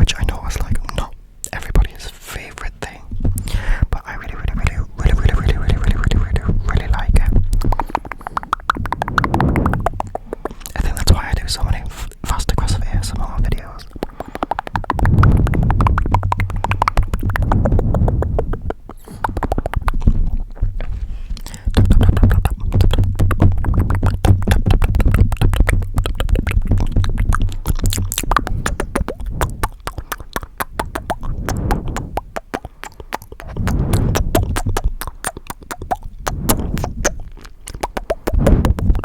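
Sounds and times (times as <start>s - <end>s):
microphone handling rumble: 2.9s - 32.6s, 33.3s - 35.0s, 36.0s - 39.0s
asmr tapping and scratching: 4.0s - 39.0s.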